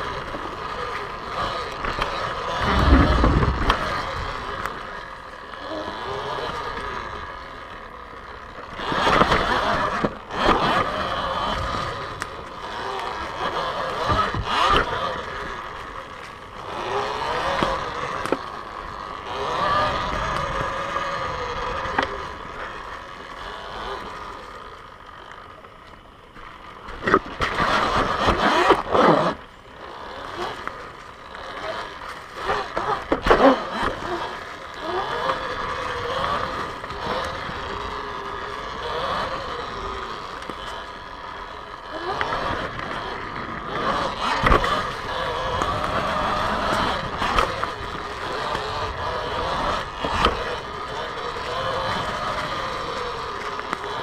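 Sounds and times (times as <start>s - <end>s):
electric motor whining: 0.0s - 54.0s
tyres on dirt and leaves: 0.0s - 54.0s.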